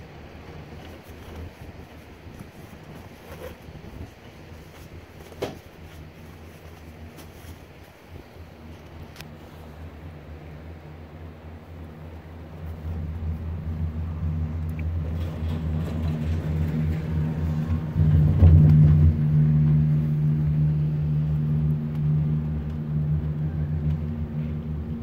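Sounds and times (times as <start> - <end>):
gondola cabin humming and rumbling: 0.0 - 25.0.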